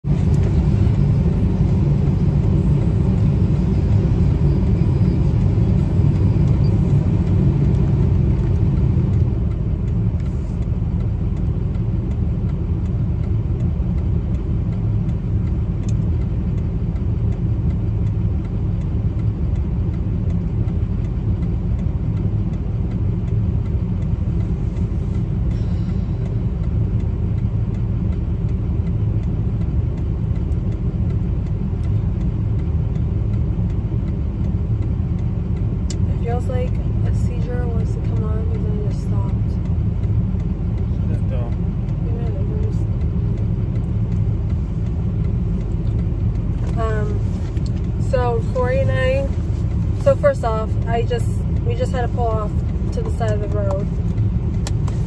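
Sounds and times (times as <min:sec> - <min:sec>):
car interior engine and road rumble: 0:00.0 - 0:55.0.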